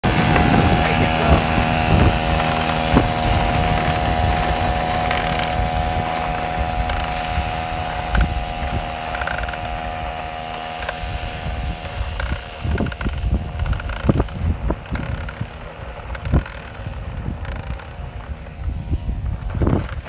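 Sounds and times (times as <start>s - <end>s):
small motorized bike engine: 0.0s - 20.0s.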